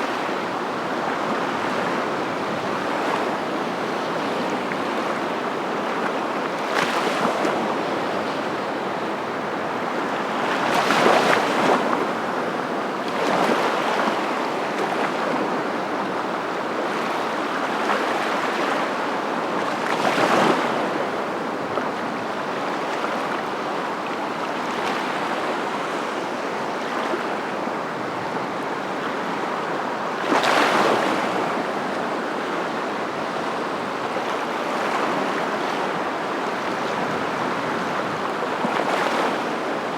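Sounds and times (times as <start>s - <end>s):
surf with breaking waves: 0.0s - 39.9s.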